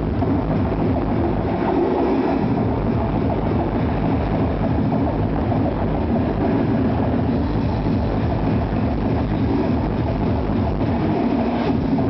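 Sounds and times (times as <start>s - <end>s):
loud distorted dance music: 0.0s - 12.0s.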